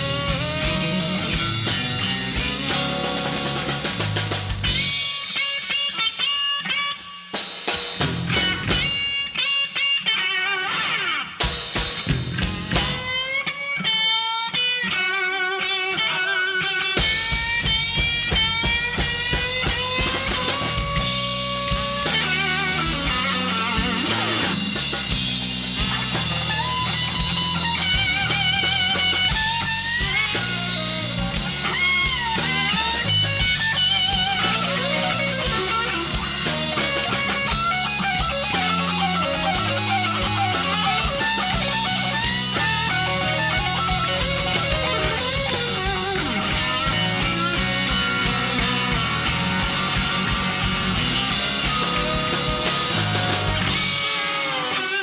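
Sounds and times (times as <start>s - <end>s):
electric guitar solo: 0.0s - 7.5s, 8.1s - 55.0s
bass guitar: 0.0s - 55.0s
drums: 0.0s - 55.0s.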